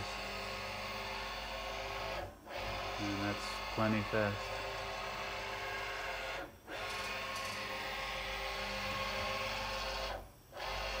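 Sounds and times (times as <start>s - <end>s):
servo motor whine: 0.0s - 11.0s.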